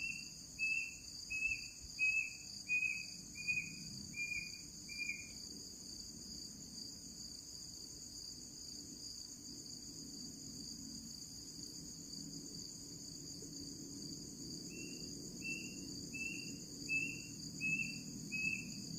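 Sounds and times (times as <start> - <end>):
crickets chirping: 0.0 - 18.9.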